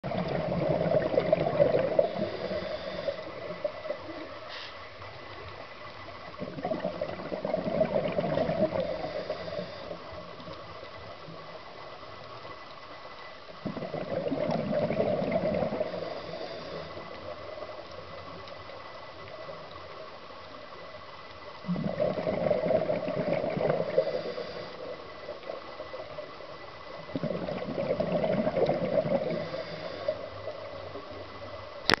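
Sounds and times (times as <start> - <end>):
underwater bubbles gurgling: 0.0 - 32.0.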